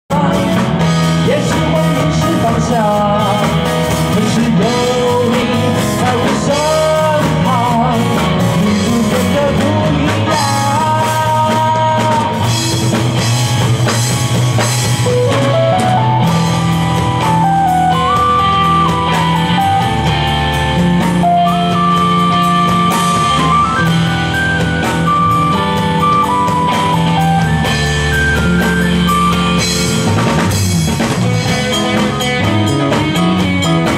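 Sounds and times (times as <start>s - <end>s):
drum kit: 0.1s - 33.9s
electric guitars: 0.1s - 33.9s
keyboard: 0.1s - 33.9s.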